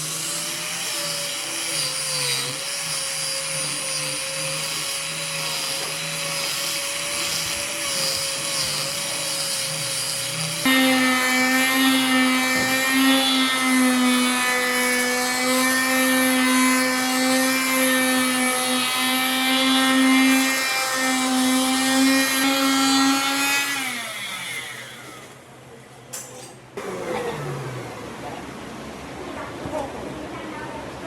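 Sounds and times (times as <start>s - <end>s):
power tool motor winding down: 0.0s - 25.4s.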